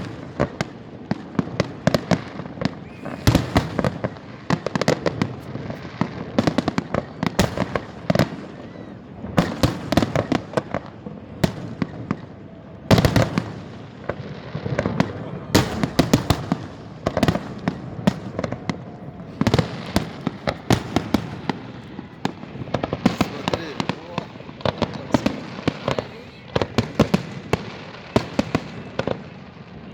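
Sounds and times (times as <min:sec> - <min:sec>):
fireworks bangs and crackling: 0:00.0 - 0:29.9.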